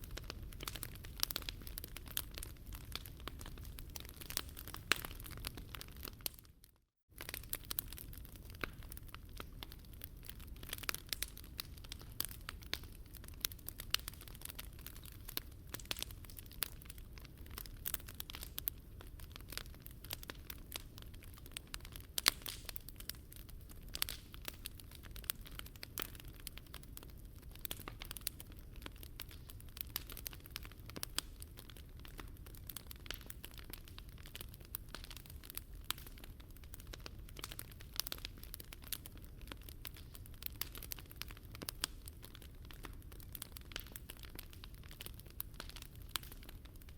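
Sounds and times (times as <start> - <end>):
low fire rumble: 0.0 - 6.4, 7.2 - 46.9
wood fire crackling and popping: 0.0 - 46.9.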